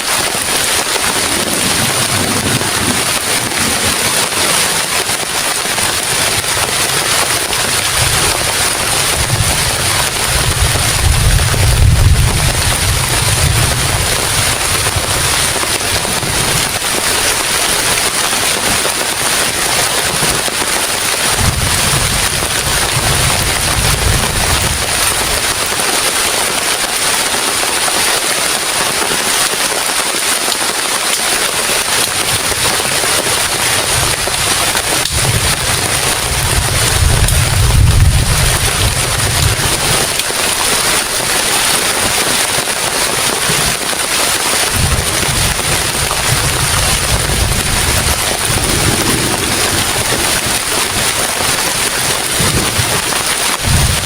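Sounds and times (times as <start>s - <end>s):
heavy rain falling: 0.0s - 54.0s
wind buffeting microphone: 0.3s - 25.7s, 32.1s - 41.3s, 44.7s - 54.0s.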